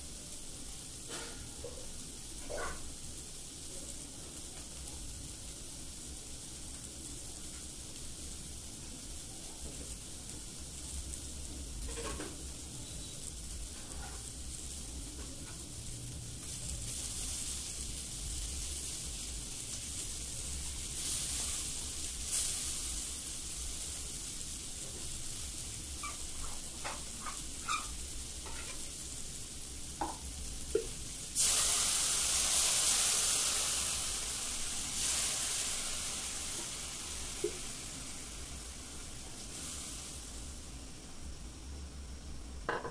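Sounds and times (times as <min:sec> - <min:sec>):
vegetables and noodles sizzling: 0:00.0 - 0:42.9.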